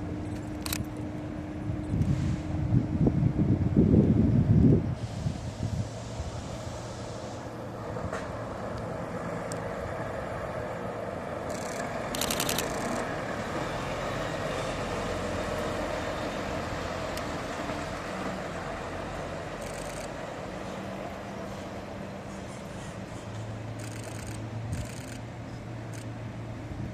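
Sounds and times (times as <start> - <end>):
road noise: 0.0 - 26.9.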